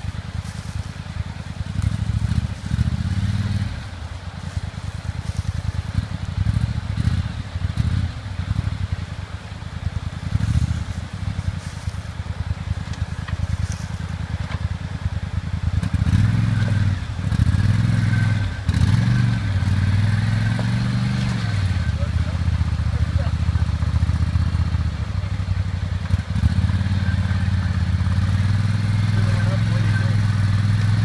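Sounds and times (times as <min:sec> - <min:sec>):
quad engine revving: 0:00.0 - 0:09.1, 0:09.8 - 0:31.0.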